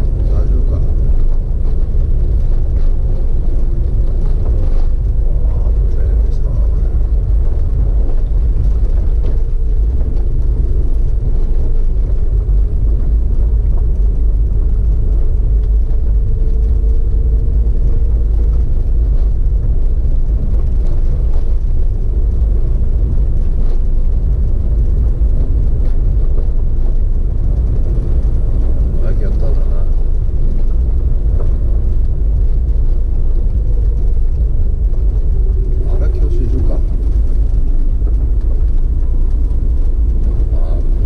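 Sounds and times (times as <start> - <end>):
engine drone: 0.0 - 41.0
wind and road noise rumble: 0.0 - 41.0.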